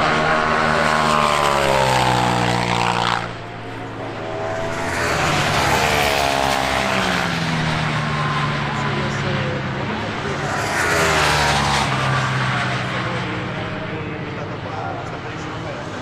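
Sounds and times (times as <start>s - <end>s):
sports cars passing at speed: 0.0s - 16.0s.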